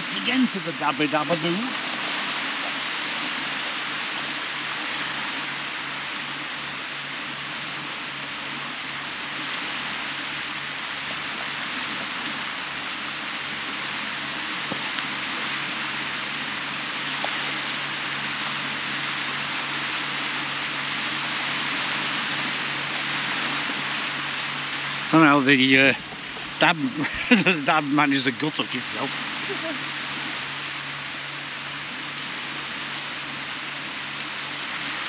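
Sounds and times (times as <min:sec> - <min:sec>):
small waves breaking on beach: 0:00.0 - 0:35.0.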